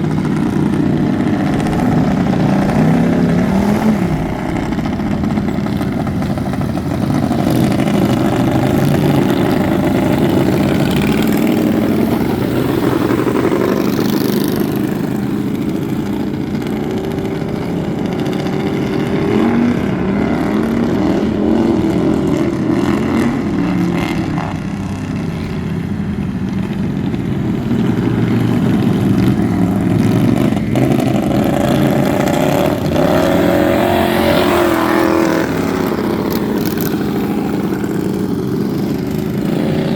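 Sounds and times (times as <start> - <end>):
lawn mower engines revving: 0.0 - 39.9.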